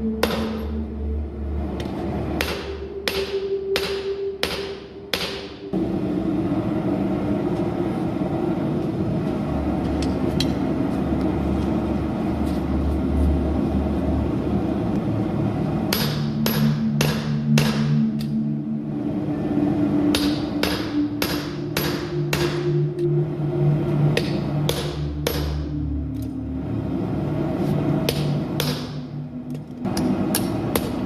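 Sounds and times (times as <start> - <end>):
running noise with low hum: 0.0 - 31.0.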